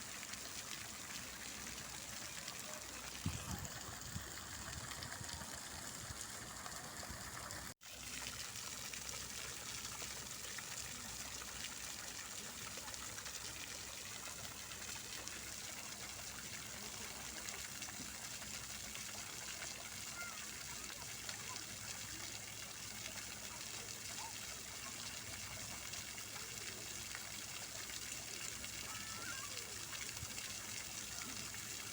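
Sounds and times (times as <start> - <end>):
fountain water splashing: 0.0 - 31.9.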